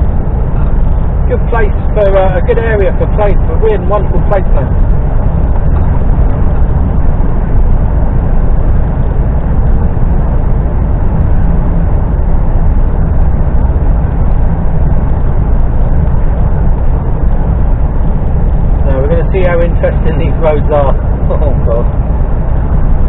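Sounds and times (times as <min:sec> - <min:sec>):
lorry engine and road noise: 0:00.0 - 0:23.0.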